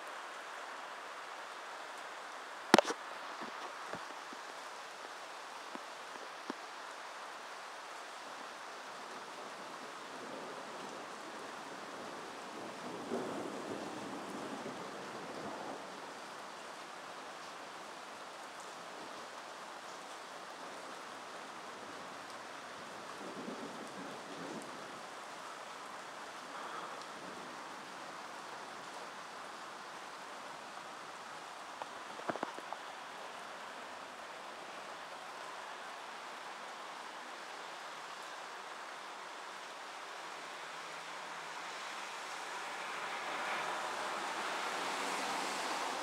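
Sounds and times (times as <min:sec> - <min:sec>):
rain hissing: 0:00.0 - 0:46.0.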